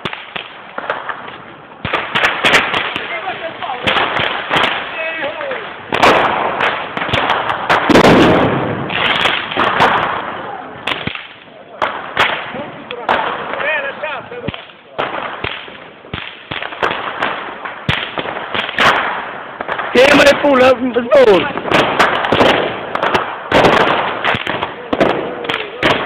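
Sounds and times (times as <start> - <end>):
fireworks and firecrackers banging: 0.0 - 26.0.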